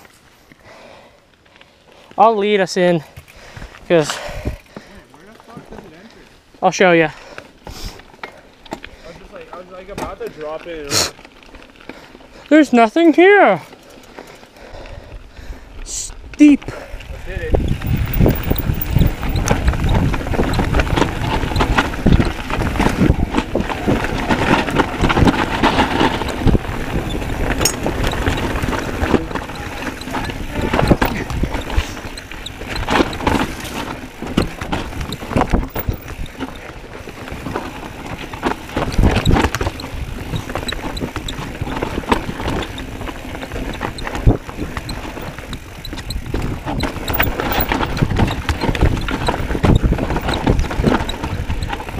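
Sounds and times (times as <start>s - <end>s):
mountain bike rattling: 0.7s - 16.0s, 16.7s - 51.9s
tyre noise on dirt: 1.5s - 14.9s, 16.6s - 51.9s.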